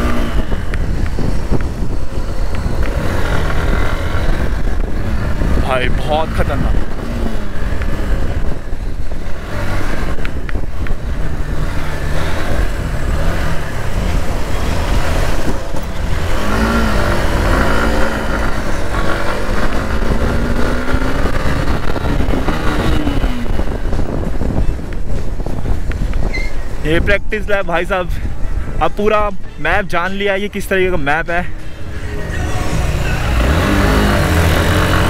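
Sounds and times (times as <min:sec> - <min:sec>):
motorcycle engine accelerating: 0:00.0 - 0:26.8, 0:31.8 - 0:35.0.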